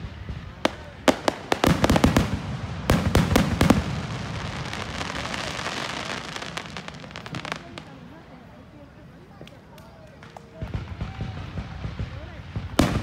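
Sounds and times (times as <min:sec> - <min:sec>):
fireworks bursts: 0:00.0 - 0:13.0
fireworks crackling pops: 0:00.0 - 0:13.0.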